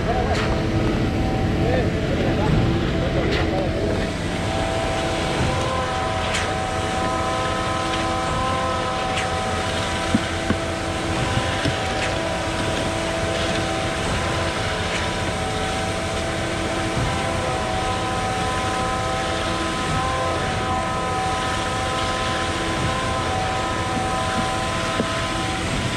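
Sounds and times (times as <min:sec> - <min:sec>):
diesel pump truck engine running: 0:00.0 - 0:25.9.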